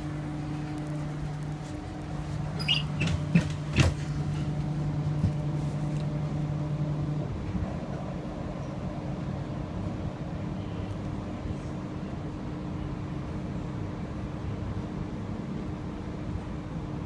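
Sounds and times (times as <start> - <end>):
electric train hum: 0.0 - 17.0
rail noise: 0.0 - 17.0.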